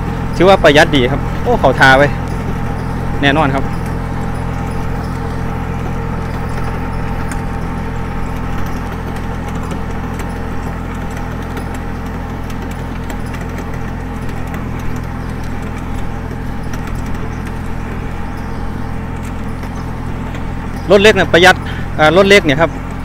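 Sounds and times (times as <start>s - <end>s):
tractor diesel engine running: 0.0s - 23.0s
light clicks and rattles: 0.2s - 23.0s.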